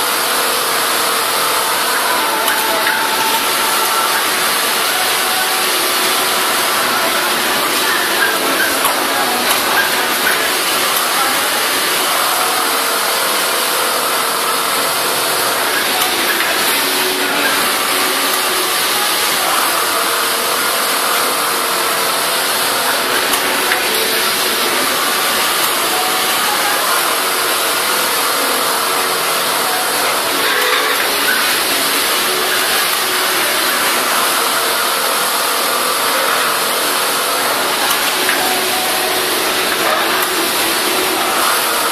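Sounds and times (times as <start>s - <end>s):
industrial sewing machines running: 0.0s - 41.9s.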